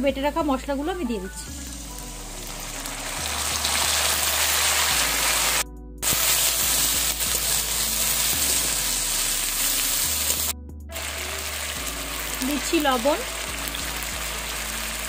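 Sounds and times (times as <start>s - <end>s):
paste sizzling in hot oil: 1.7s - 15.0s.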